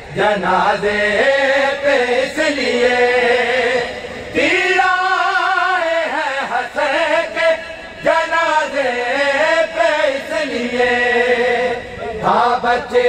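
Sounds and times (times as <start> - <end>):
man singing a lament: 0.1 - 13.0.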